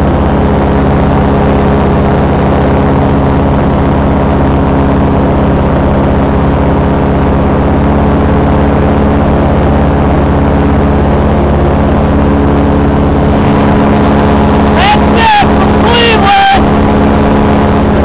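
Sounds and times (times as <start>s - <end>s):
paramotor engine drone: 0.0s - 18.0s.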